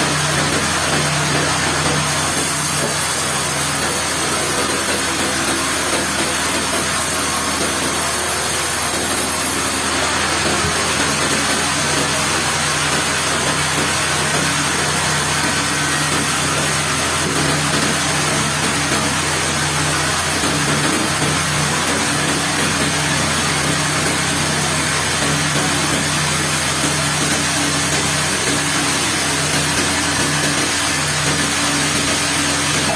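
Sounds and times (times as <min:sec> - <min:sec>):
sawmill saw cutting log: 0:00.0 - 0:32.9.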